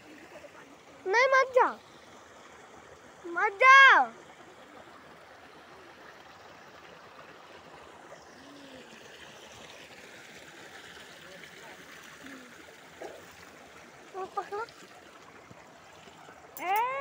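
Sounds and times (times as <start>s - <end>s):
water running over rocks: 0.0s - 17.0s.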